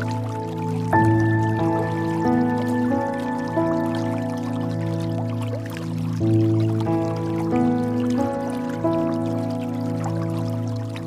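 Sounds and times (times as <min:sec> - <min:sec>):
soft ambient music: 0:00.0 - 0:11.0
trickling water and drips: 0:00.0 - 0:11.0.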